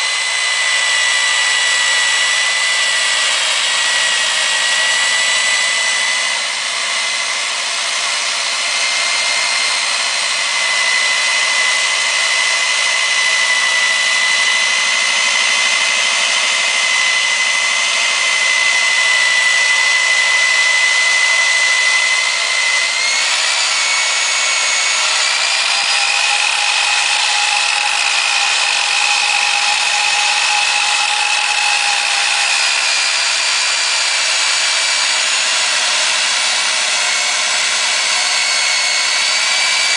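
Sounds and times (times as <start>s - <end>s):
core drill motor whining: 0.0s - 39.9s.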